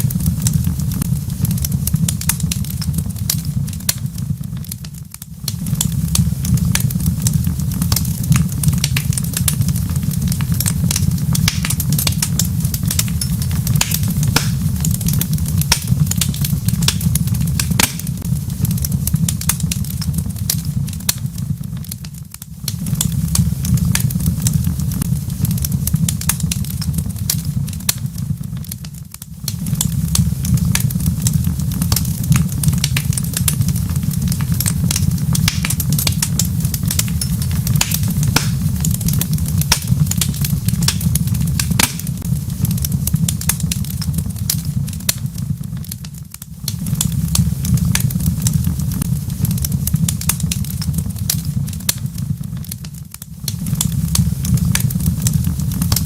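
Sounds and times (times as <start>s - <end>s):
fire crackling and popping: 0.0s - 56.0s
low rumble of burning: 0.0s - 56.0s.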